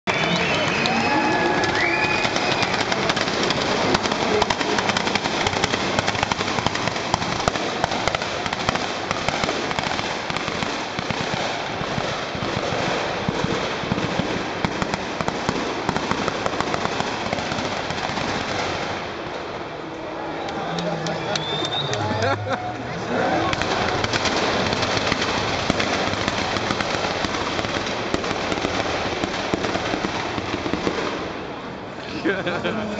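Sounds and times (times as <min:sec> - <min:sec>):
exhaust crackling and popping: 0:00.0 - 0:19.4, 0:23.2 - 0:31.4.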